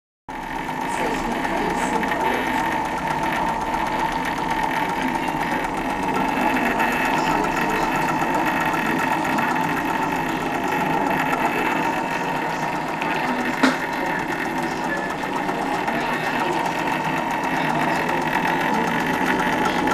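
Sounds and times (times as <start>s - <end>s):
film projector clatter: 0.3s - 19.9s
projector motor whine: 0.3s - 19.9s.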